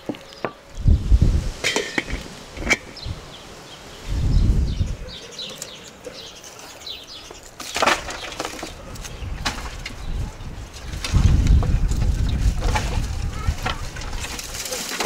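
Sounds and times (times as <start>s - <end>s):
small birds chirping: 0.0s - 0.9s, 2.3s - 14.0s.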